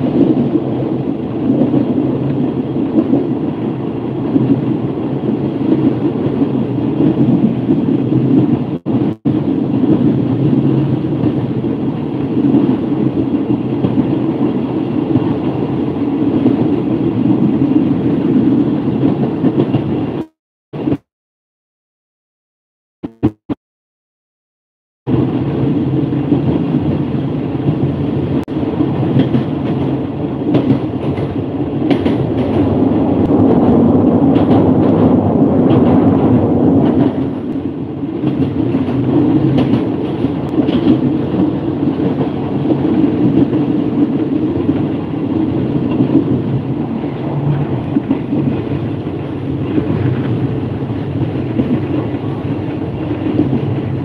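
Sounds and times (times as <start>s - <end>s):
train wheels rumbling on rail: 0.0s - 21.0s, 25.1s - 54.0s.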